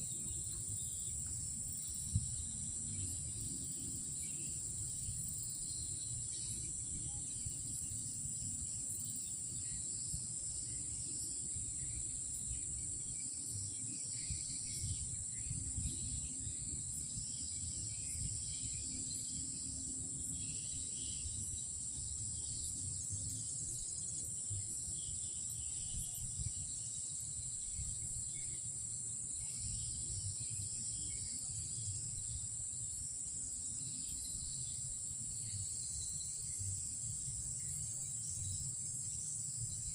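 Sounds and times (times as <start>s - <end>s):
high-pitched insect chorus: 0.0s - 39.9s
uneven insect chirping: 0.0s - 39.9s.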